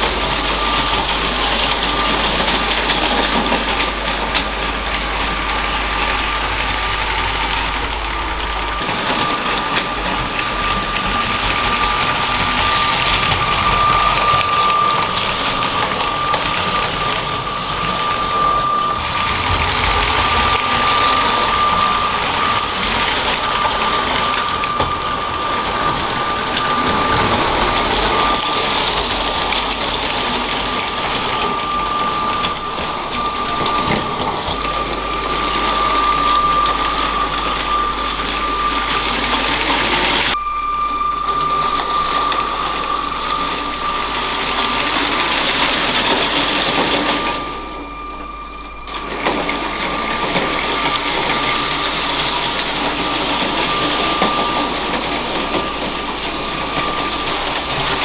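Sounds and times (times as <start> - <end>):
wheels rattling on plastic track: 0.0 - 40.4, 41.1 - 58.0
toy train motor whine: 0.0 - 58.0.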